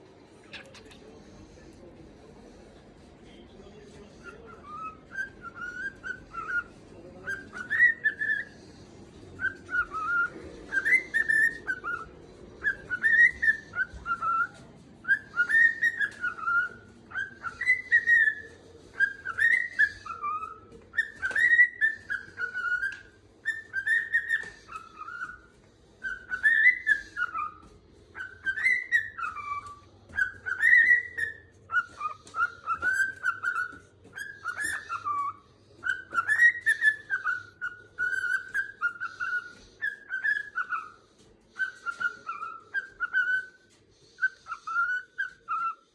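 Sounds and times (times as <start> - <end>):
cockatiel whistling calls: 4.2 - 8.6, 9.4 - 45.9.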